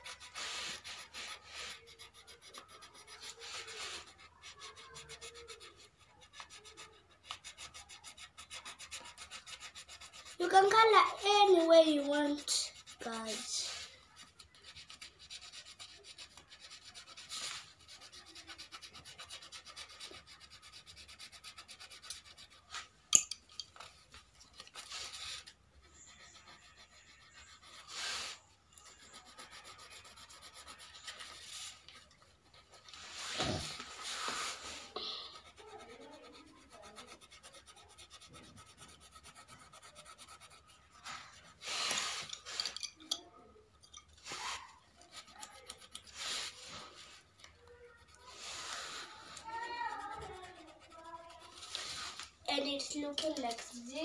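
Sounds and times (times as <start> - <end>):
pencil rubbing bursts: 0.0 - 23.0, 23.8 - 42.8, 44.0 - 54.0
pencil scratching on paper: 0.0 - 54.0.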